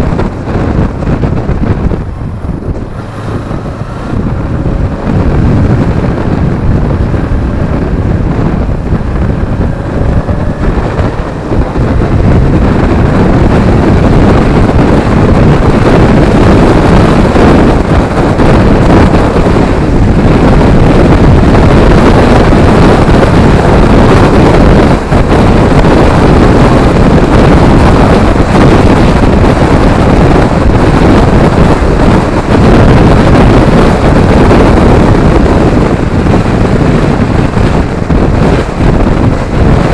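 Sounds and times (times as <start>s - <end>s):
faint motorcycle engine: 0.0s - 39.9s
wind buffeting microphone: 0.0s - 39.9s.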